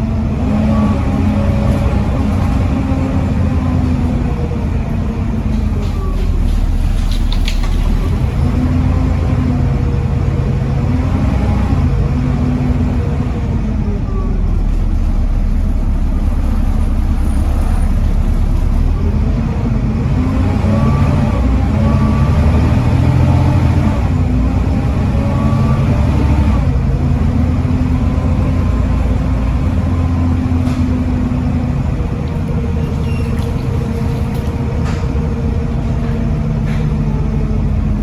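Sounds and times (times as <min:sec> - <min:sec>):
bus diesel engine: 0:00.0 - 0:38.0.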